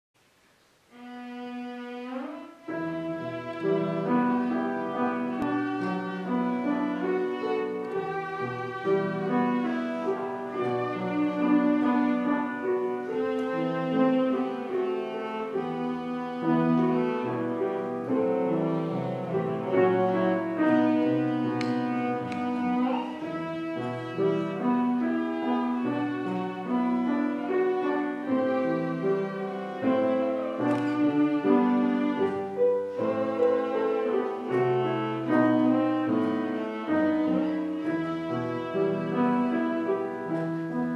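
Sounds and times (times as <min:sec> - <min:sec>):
cello melody: 0:00.8 - 0:40.9
piano accompaniment: 0:00.9 - 0:40.9.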